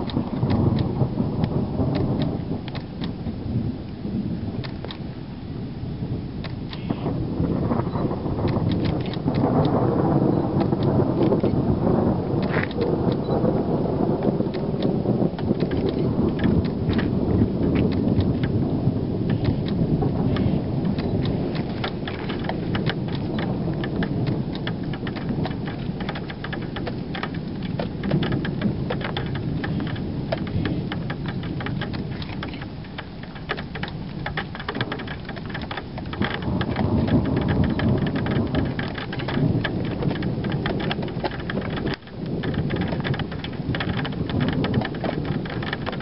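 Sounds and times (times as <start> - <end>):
raindrop ticks: 0.0 - 5.2, 6.4 - 46.0
thunder rumble: 0.0 - 46.0.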